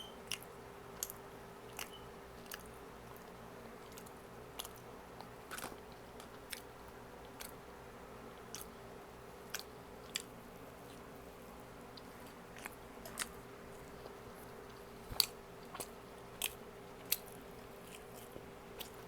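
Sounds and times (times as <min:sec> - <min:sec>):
faint steady hum: 0:00.0 - 0:19.0
person chewing food: 0:00.1 - 0:19.0.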